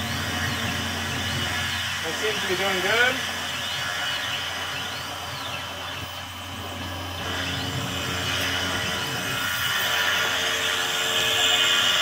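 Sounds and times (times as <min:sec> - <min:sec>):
mill spindle cutting wood: 0:00.0 - 0:12.0.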